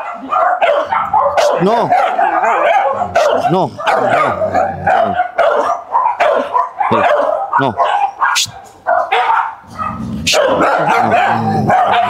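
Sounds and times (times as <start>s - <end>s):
dog barking sharply: 0.0s - 12.0s.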